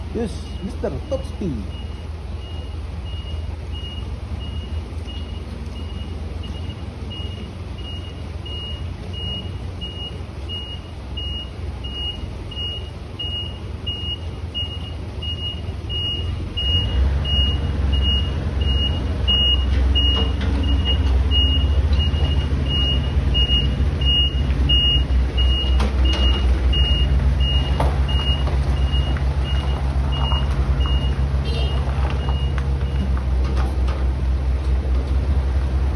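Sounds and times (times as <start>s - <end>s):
diesel engine running: 0.0s - 35.9s
warning alarm beeping: 0.2s - 33.1s.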